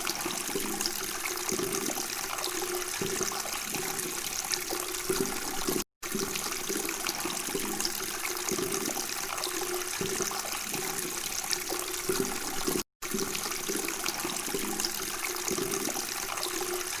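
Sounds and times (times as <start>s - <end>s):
water babbling and gurgling: 0.0s - 17.0s.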